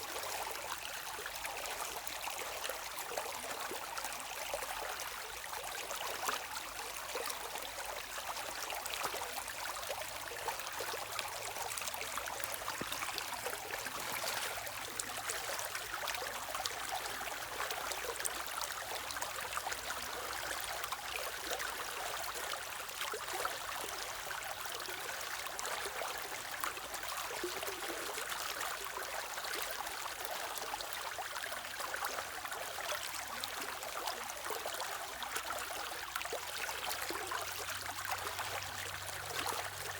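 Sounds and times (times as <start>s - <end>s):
stream water running over stones: 0.0s - 39.9s.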